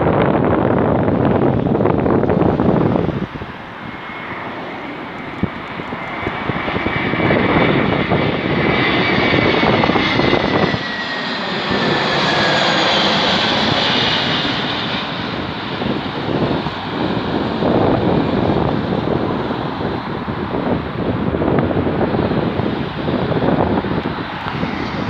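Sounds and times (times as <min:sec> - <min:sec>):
high engine whine: 0:00.0 - 0:25.0
jet airliner passing low: 0:00.0 - 0:25.0.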